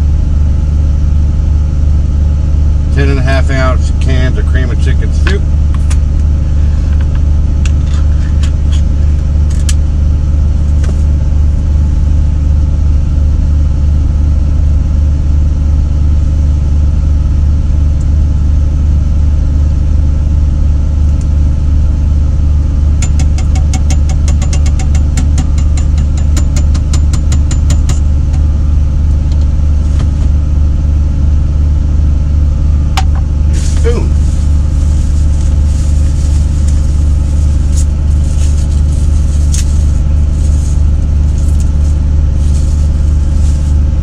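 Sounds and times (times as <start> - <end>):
diesel engine idling: 0.0 - 13.0, 16.9 - 44.0.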